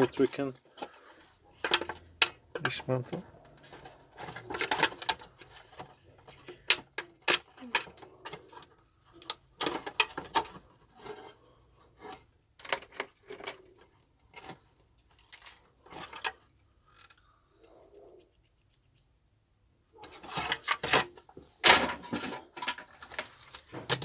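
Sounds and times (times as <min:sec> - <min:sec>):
plastic and metal parts clattering: 0:00.0 - 0:19.0, 0:20.0 - 0:24.0.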